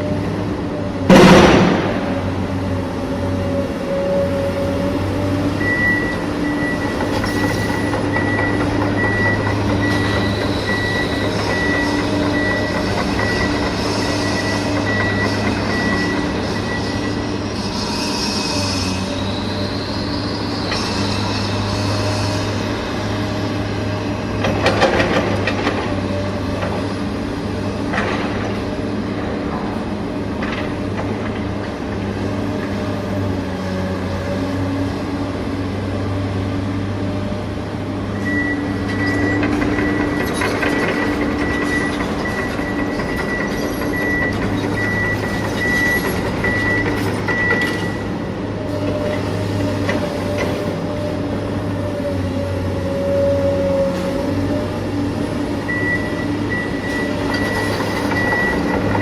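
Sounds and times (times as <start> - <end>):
excavator engine hum: 0.0 - 59.0.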